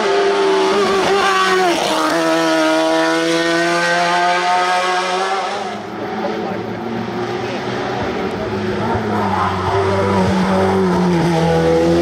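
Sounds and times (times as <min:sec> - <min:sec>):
racing car engine high revs: 0:00.0 - 0:12.0.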